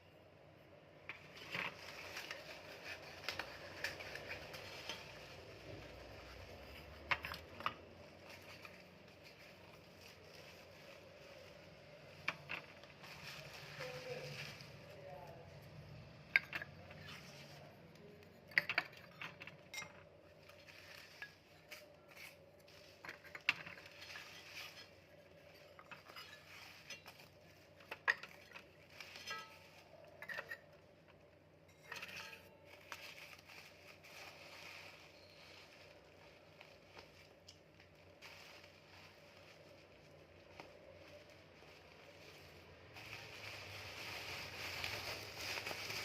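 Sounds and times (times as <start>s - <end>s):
packaging rustling: 1.0s - 15.0s, 16.4s - 31.6s, 32.2s - 46.0s.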